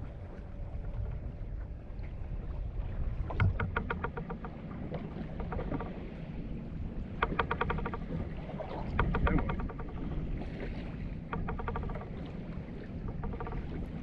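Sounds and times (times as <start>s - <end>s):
wind and water around boat: 0.0s - 14.0s.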